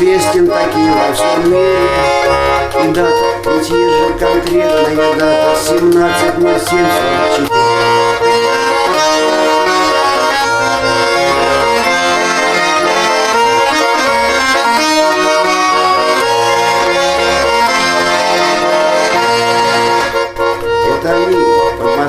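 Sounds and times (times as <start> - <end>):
accordion playing chords: 0.0 - 22.0.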